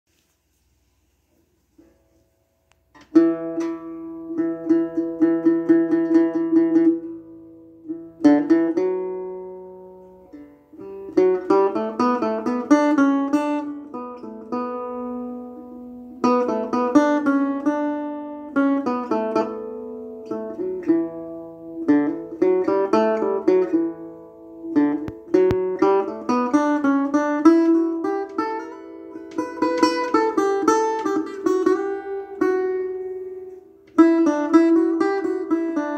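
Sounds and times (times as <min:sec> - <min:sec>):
acoustic guitar picking: 0:01.7 - 0:35.9.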